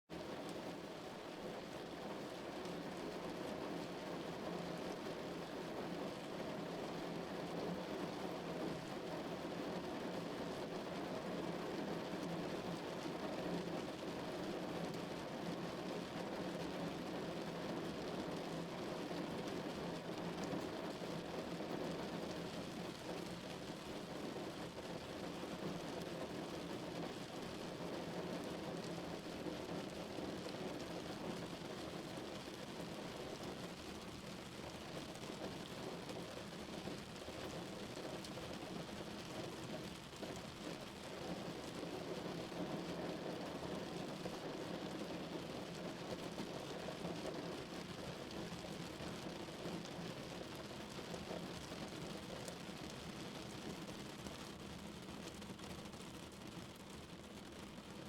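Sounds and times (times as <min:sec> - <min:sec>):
rain drumming on car roof: 0:00.2 - 0:58.0.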